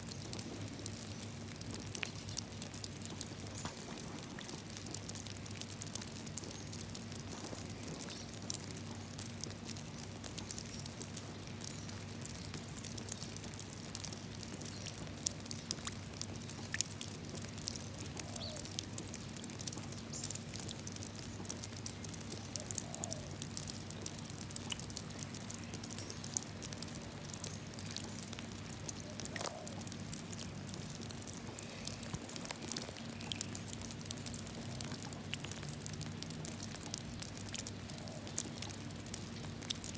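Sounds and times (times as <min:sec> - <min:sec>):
rain splashing into a puddle: 0:00.0 - 0:39.9.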